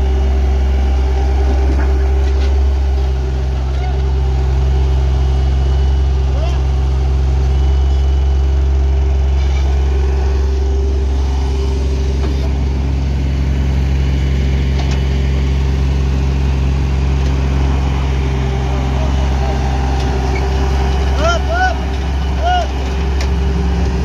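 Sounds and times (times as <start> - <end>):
diesel engines droning: 0.0 - 24.0.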